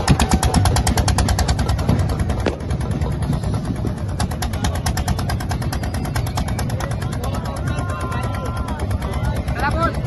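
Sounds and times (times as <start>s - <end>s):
boat engine knocking: 0.0s - 10.0s.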